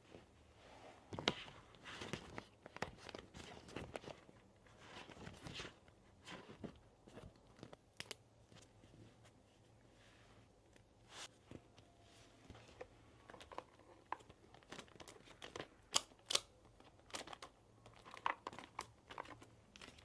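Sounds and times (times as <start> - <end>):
paper crinkling and rustling: 1.1 - 9.0, 11.2 - 20.0.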